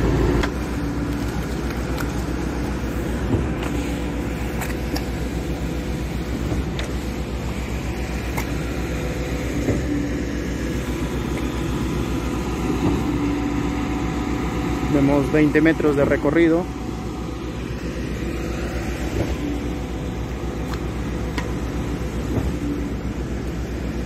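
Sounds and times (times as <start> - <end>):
concrete pump droning: 0.0 - 24.0.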